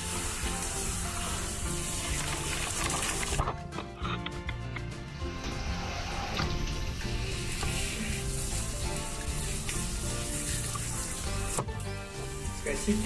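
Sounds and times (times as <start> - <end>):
shower water hissing: 0.0 - 3.4, 5.0 - 13.0
background music: 0.0 - 13.0.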